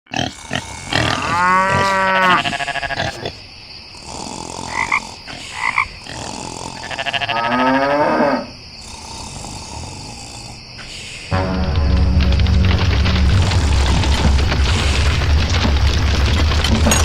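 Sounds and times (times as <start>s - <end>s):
long rattling animal calls: 0.2s - 11.4s, 12.2s - 17.0s.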